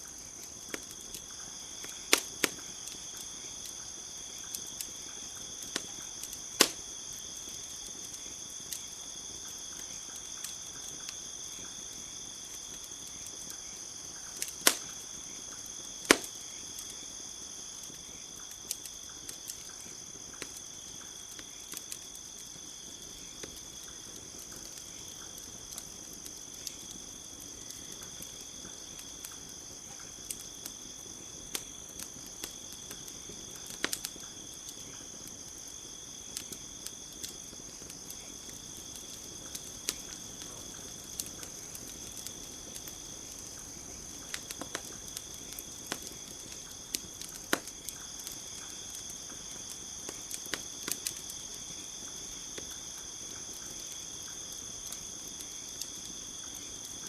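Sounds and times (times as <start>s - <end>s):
campfire crackling: 0.0s - 57.0s
high-pitched insect chorus: 0.0s - 57.0s
sharp fire pops: 0.1s - 17.1s, 17.9s - 57.0s.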